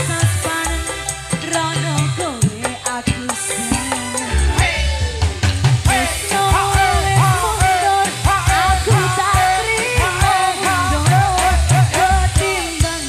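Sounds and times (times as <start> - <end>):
woman singing: 0.0 - 4.6, 5.9 - 13.0
live band music: 0.0 - 13.0.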